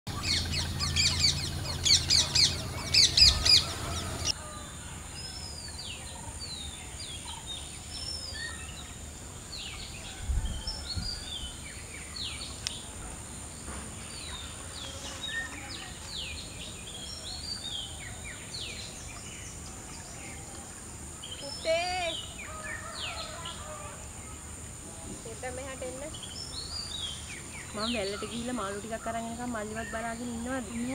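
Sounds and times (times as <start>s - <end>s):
birds chirping and calling: 0.1s - 30.9s.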